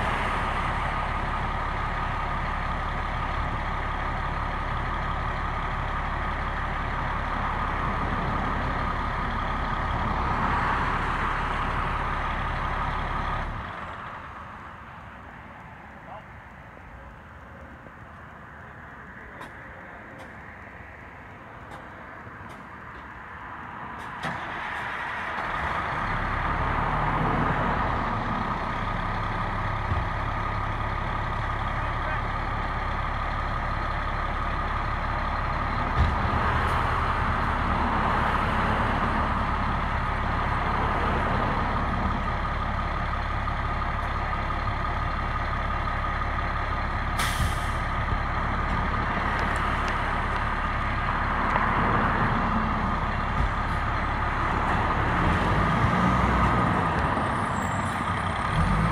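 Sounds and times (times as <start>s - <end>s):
fire truck engine rumble: 0.0s - 58.9s.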